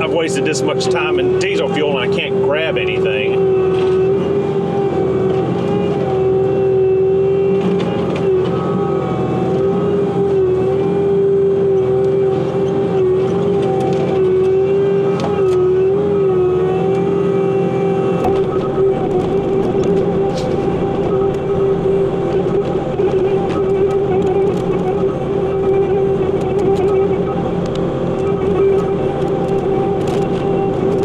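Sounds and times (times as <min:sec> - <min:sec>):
diesel engine at high throttle: 0:00.0 - 0:31.0
hydraulic whine: 0:00.0 - 0:31.0.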